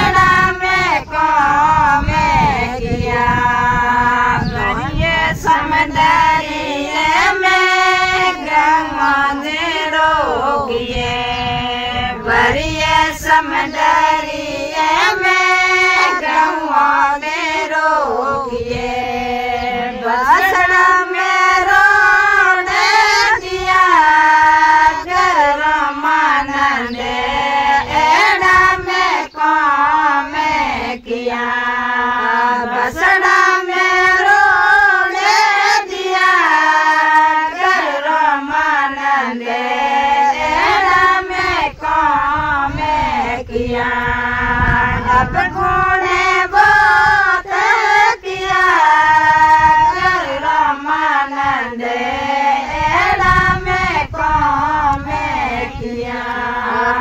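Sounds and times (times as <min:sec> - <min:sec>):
women singing devotional folk song: 0:00.0 - 0:57.0.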